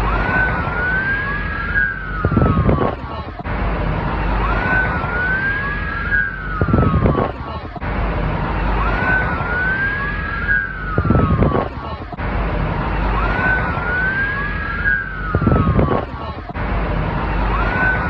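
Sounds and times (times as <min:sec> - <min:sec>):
noisy background with low hum: 0:00.0 - 0:18.0.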